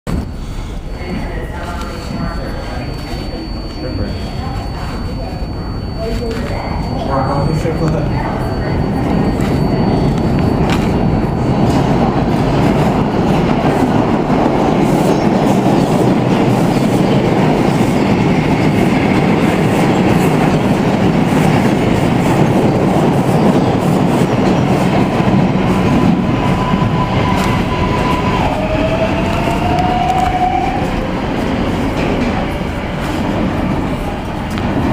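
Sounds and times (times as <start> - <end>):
subway train rumble and wheel clatter: 0.1 - 34.9.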